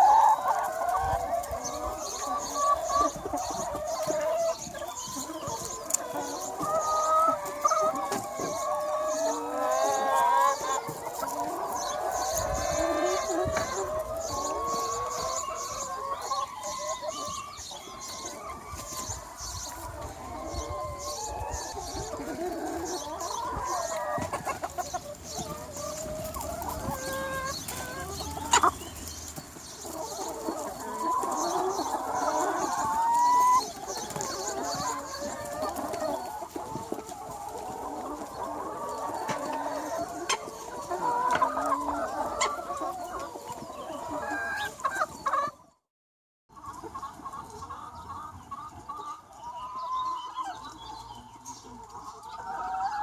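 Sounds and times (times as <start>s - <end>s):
chickens clucking: 0.0s - 45.8s, 46.5s - 53.0s.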